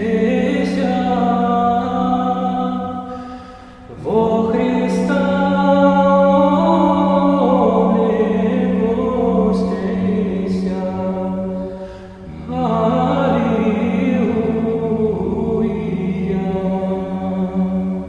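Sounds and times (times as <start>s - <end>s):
choir chanting: 0.0s - 18.0s.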